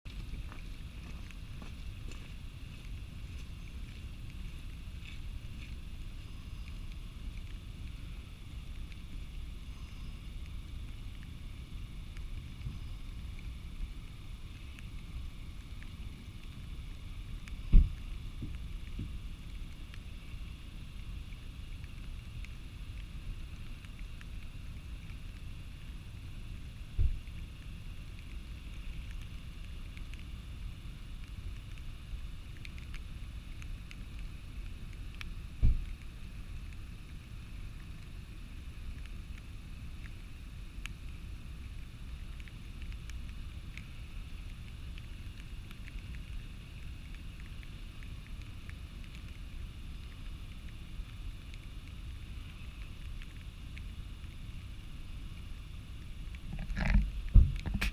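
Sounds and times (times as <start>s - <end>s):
waterfall rumble: 0.1s - 57.9s.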